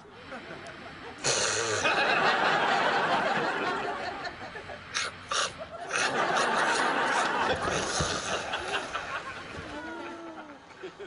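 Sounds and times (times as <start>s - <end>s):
studio audience laughing: 0.2s - 11.0s.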